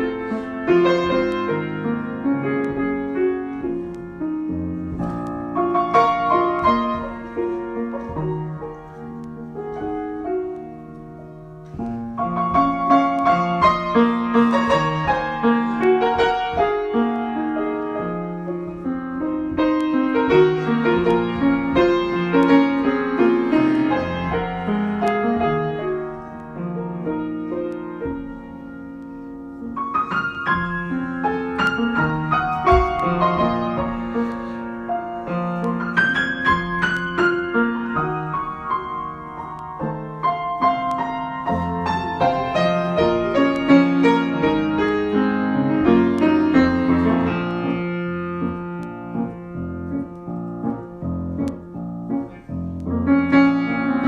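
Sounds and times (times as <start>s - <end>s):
solo piano: 0.0s - 54.0s.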